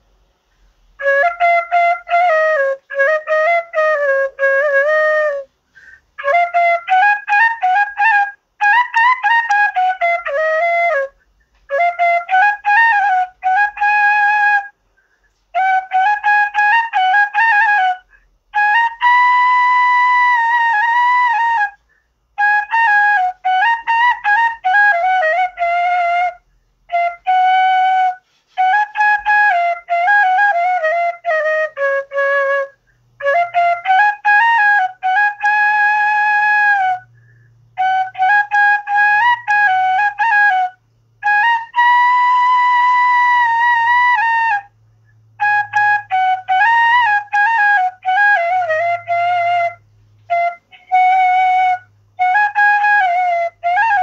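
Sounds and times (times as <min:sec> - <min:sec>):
solo instrumental melody: 0:00.0 - 0:54.0.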